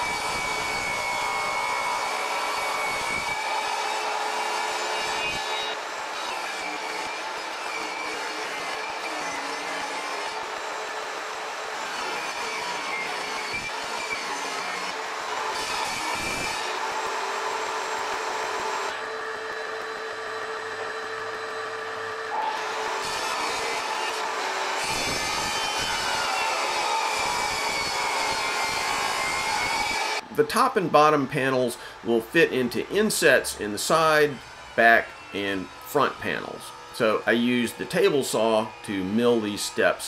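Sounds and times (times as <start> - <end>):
table saw cutting wood: 0.0 - 40.0.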